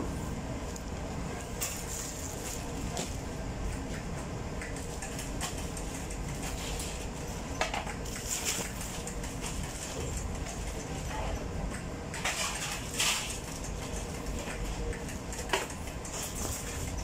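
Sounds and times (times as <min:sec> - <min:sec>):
low hum of machinery: 0:00.0 - 0:17.0.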